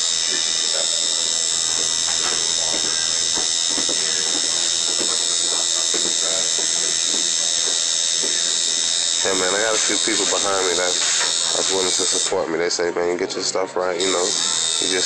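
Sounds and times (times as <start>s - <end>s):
tattoo machine buzzing: 0.0s - 12.5s, 14.0s - 15.0s.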